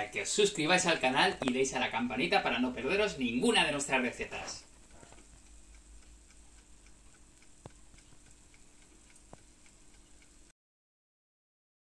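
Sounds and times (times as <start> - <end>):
light regular ticking: 0.0 - 10.5.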